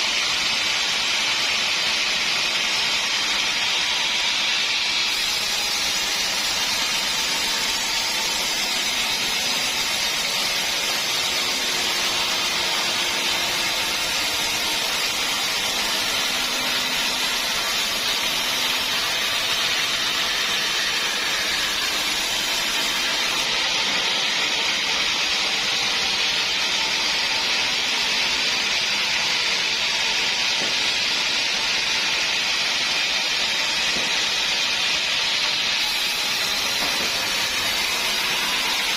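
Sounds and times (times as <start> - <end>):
sawmill saw hissing: 0.0 - 38.9.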